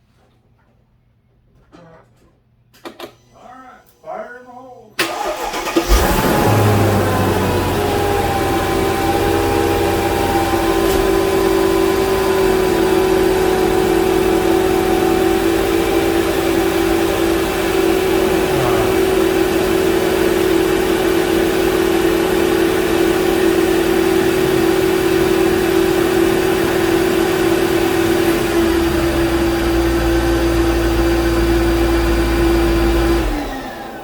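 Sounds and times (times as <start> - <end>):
engine idling: 5.0 - 34.0
air pump whine: 5.9 - 34.0.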